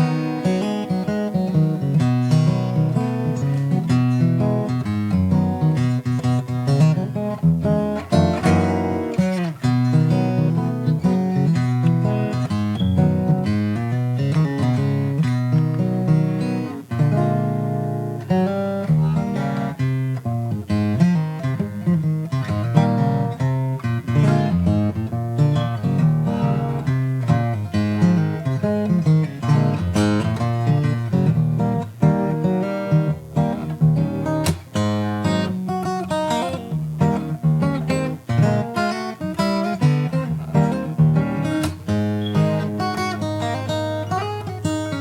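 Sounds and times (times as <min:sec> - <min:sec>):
acoustic guitar music: 0:00.0 - 0:45.0.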